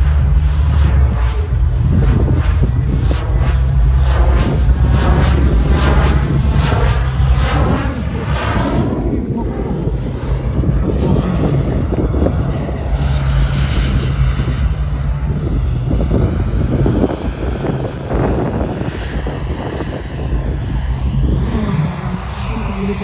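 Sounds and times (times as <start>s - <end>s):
constant low hum: 0.0s - 23.0s
model jet turbine running: 0.0s - 23.0s.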